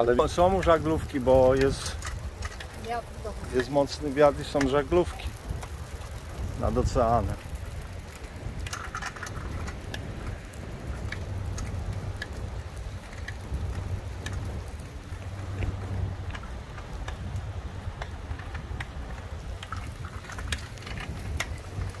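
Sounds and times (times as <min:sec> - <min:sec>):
faint ticks and clicks: 0:00.0 - 0:22.0
wind buffeting microphone: 0:00.0 - 0:22.0.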